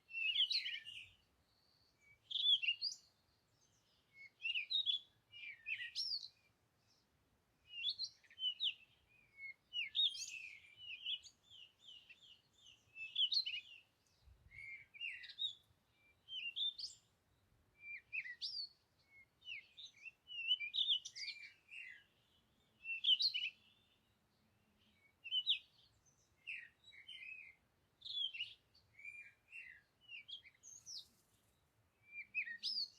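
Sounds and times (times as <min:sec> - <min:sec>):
songbird chirping and singing: 0:00.0 - 0:32.9.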